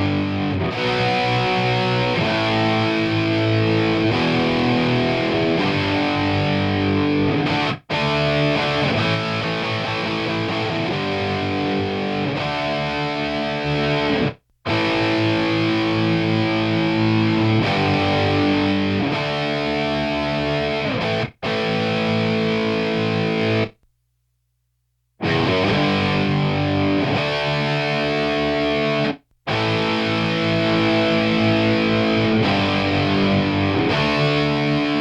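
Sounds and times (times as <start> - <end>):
distorted electric guitar power chords: 0.0 - 23.8, 25.2 - 35.0.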